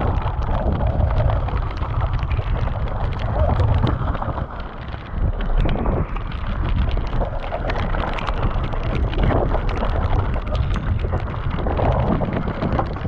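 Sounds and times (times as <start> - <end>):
bike rattling over stones: 0.0 - 13.0
wind buffeting microphone: 0.0 - 13.0.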